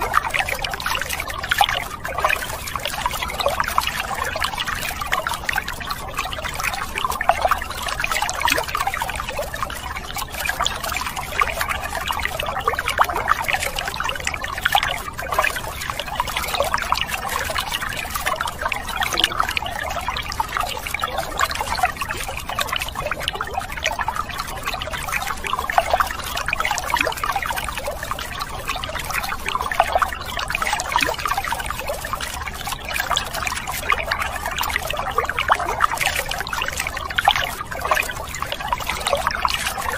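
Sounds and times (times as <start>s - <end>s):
water pouring and splashing: 0.0s - 39.9s.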